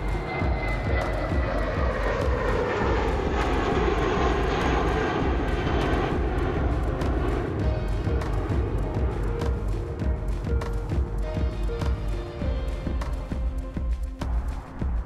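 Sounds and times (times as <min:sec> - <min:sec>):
jet engines roaring overhead: 0:00.0 - 0:13.6.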